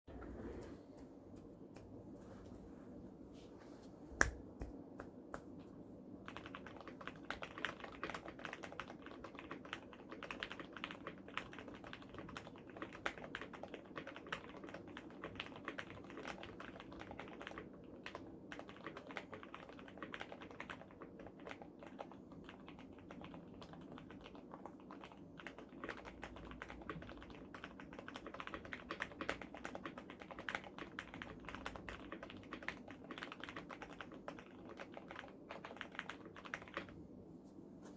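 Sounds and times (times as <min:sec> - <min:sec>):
mechanical keyboard typing: 0:06.2 - 0:37.0.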